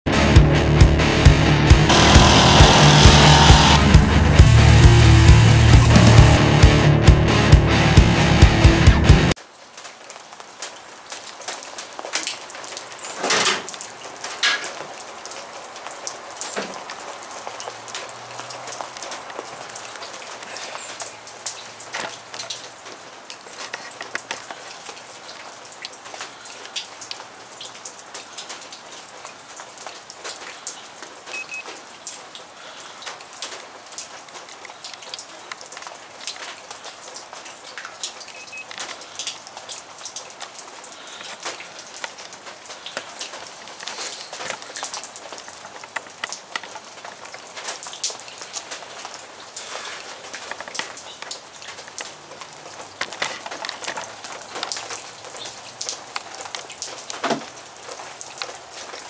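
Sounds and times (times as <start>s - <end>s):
rain falling: 0.1s - 59.0s.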